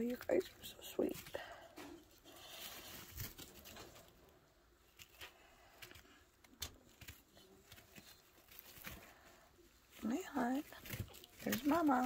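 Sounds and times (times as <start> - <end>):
rustling wood shavings: 0.0 - 12.0.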